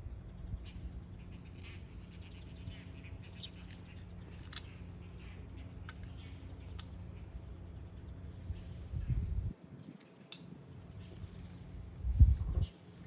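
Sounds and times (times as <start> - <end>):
birds chirping: 0.0 - 13.0
low background hum: 0.0 - 13.0.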